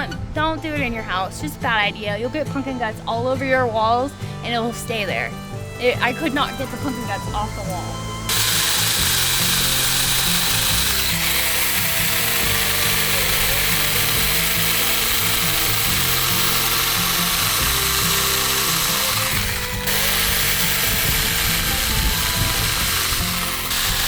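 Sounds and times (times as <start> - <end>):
background music: 0.0 - 24.0
chainsaw cutting: 4.1 - 24.0.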